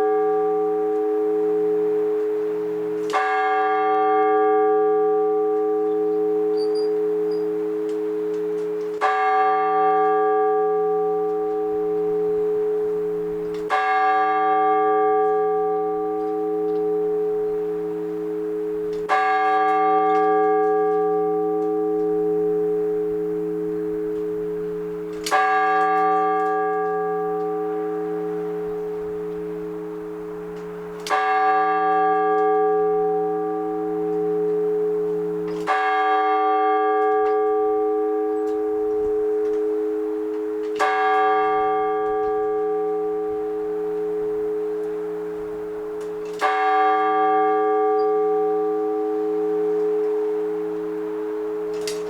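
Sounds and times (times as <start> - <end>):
large church bell tolling: 0.0 - 52.0.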